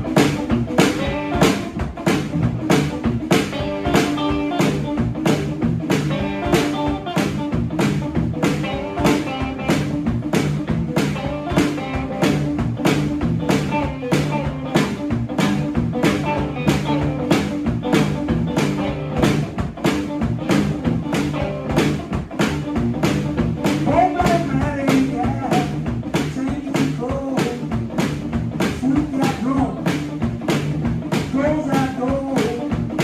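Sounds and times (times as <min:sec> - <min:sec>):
drum kit steady beat: 0:00.0 - 0:33.0
electric guitar riff: 0:00.0 - 0:33.0.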